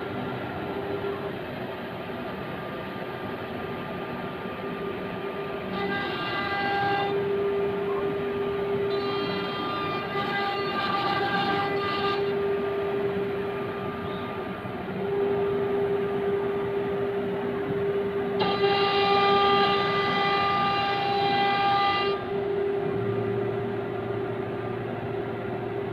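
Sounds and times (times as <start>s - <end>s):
higher whine with overtones: 0.0s - 25.9s
router spindle whine: 0.0s - 25.9s.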